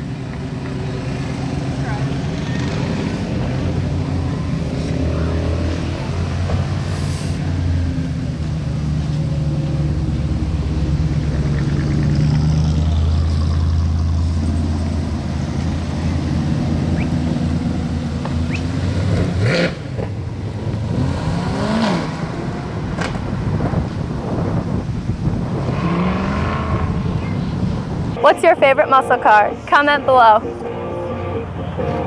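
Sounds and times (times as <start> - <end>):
car engine running and revving: 0.0 - 32.0.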